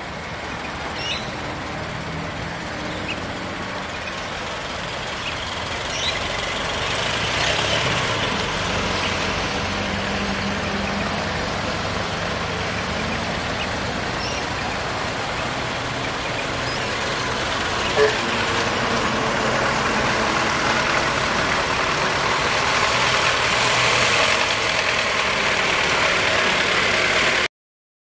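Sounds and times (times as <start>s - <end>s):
old car engines running: 0.0s - 27.5s.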